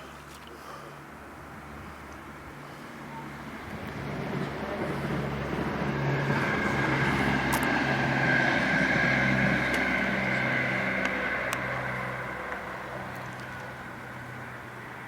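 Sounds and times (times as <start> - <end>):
engine hum passing by: 0.0 - 15.0.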